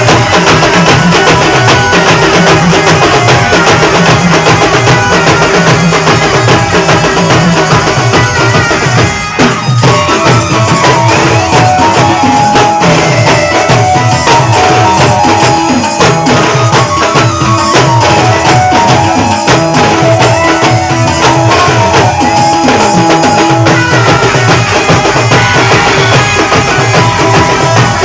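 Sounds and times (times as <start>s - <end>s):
fast dense drumming: 0.0s - 28.0s.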